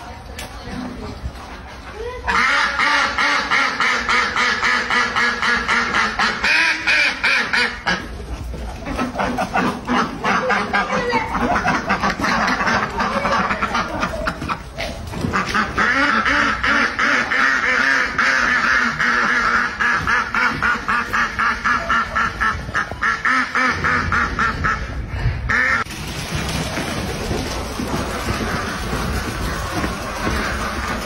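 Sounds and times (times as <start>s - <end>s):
ducks quacking: 2.2s - 25.9s, 27.4s - 31.0s.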